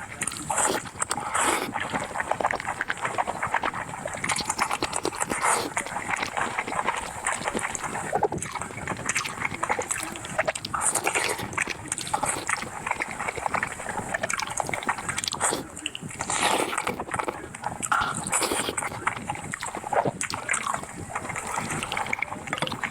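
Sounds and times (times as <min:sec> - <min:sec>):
wet chewing and slurping: 0:00.0 - 0:22.9.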